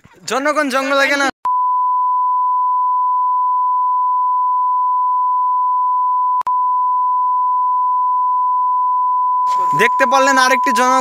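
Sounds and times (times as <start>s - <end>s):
censor beep tone: 1.5s - 11.0s.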